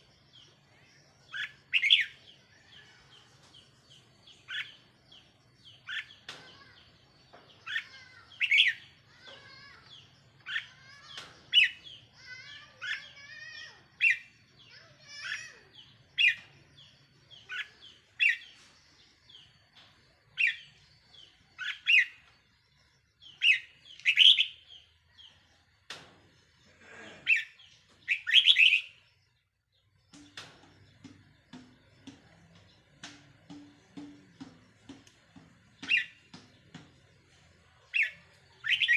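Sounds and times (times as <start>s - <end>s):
bulbul singing warbled phrases: 0.0s - 25.4s, 26.6s - 38.9s.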